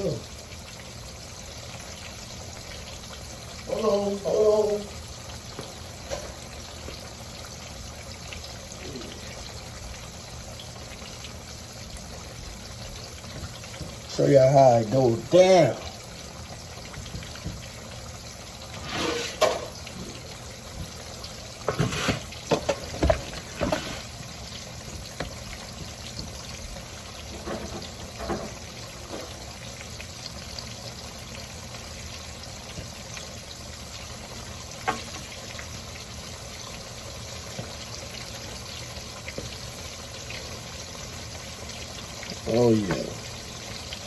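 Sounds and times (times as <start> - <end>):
food sizzling in hot oil: 0.0 - 44.0.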